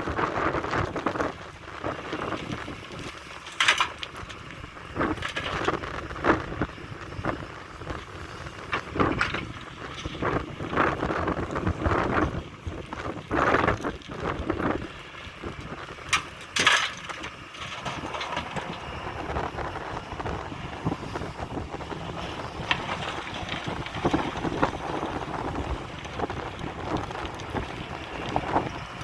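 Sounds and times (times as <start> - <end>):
excavator engine running: 0.0 - 29.0
wind buffeting microphone: 0.0 - 29.0.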